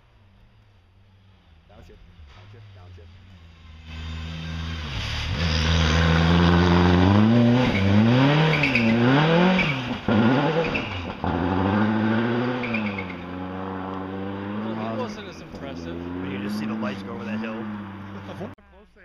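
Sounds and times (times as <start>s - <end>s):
rally car engine revving: 1.3s - 18.6s.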